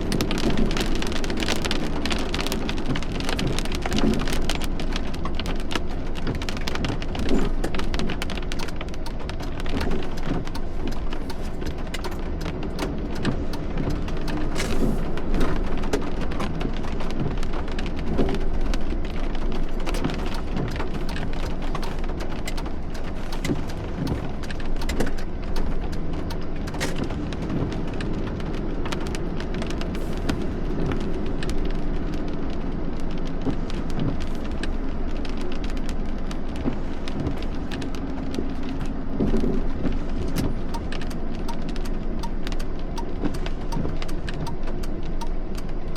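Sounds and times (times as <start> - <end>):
heavy rain patter: 0.0 - 45.9.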